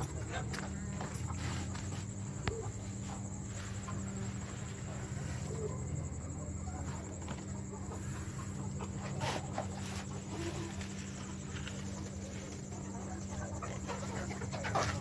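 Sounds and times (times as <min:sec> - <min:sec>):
chickens clucking: 0:00.0 - 0:15.0
steady low hum: 0:00.0 - 0:15.0.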